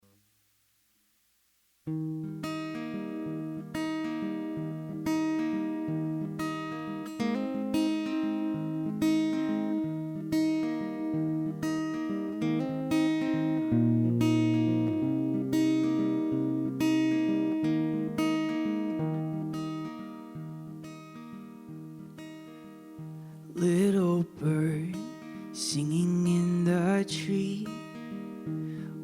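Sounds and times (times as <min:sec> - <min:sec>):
acoustic guitar playing: 0:01.8 - 0:29.0.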